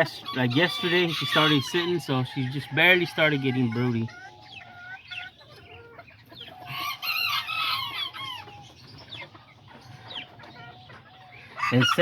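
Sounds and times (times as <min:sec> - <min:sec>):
chickens clucking and calling: 0:00.0 - 0:12.0.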